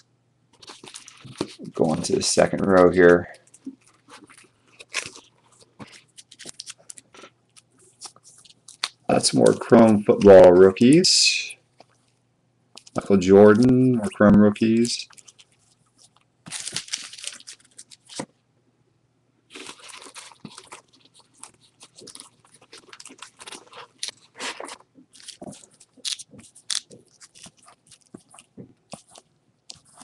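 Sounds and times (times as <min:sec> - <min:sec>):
cards in plastic sleeves shuffling: 0:00.6 - 0:11.3, 0:12.8 - 0:18.3, 0:19.5 - 0:30.0.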